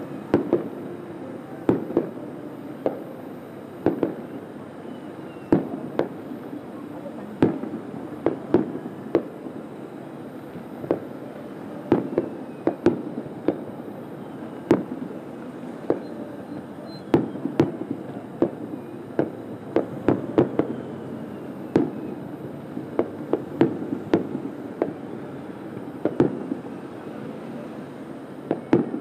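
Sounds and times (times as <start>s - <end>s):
distant fireworks booming: 0.0s - 29.0s
steady background noise: 0.0s - 29.0s.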